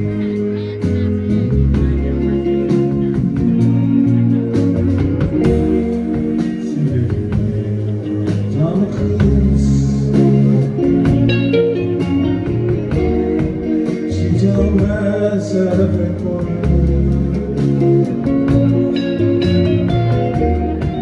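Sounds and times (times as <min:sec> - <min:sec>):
bass guitar: 0:00.0 - 0:21.0
drums: 0:00.0 - 0:21.0
electric guitars: 0:00.0 - 0:21.0
person singing: 0:00.0 - 0:21.0.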